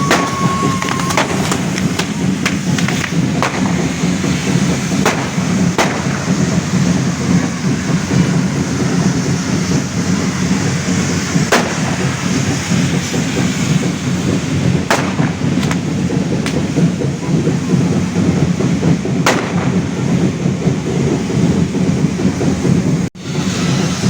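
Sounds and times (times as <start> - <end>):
fireworks cracks: 0.0 - 23.5
low rumble: 0.0 - 24.0.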